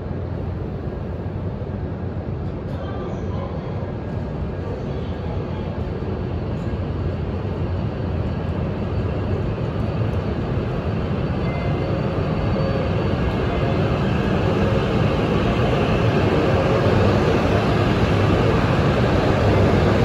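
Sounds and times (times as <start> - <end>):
high-speed train pulling out: 0.0 - 20.0.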